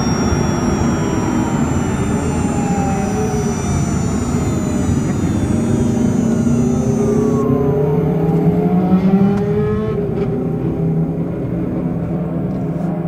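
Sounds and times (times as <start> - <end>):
high inverter tone: 0.0 - 11.4
electric motor whining: 0.0 - 12.7.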